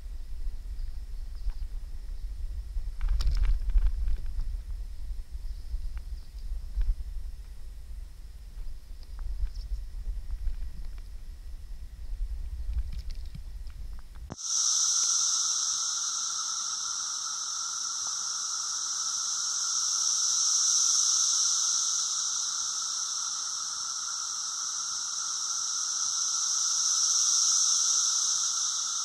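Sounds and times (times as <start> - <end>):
cicadas buzzing drone: 0.0 - 29.0.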